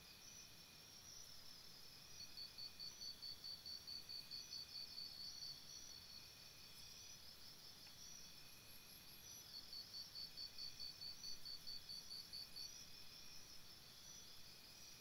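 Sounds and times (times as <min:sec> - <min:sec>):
crickets pulsing chirp: 0:00.0 - 0:15.0.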